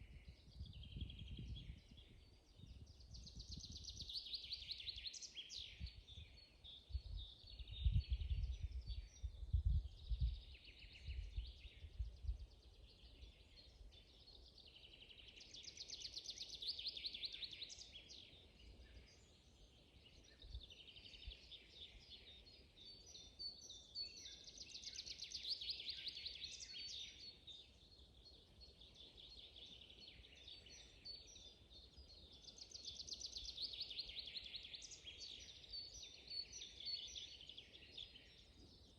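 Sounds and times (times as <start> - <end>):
songbird pulsed song: 0.0 - 38.9
bird chirps: 0.5 - 38.9.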